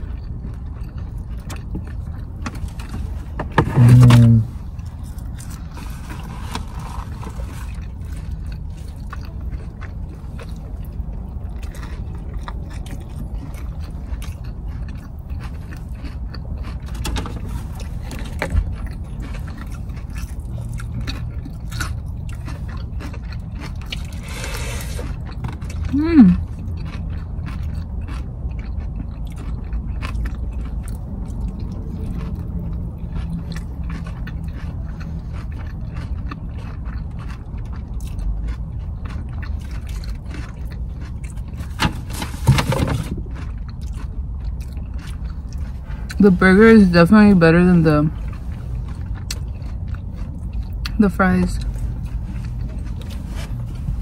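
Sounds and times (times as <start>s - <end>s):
chewing and biting food: 0.0s - 54.0s
steady low rumble: 0.0s - 54.0s.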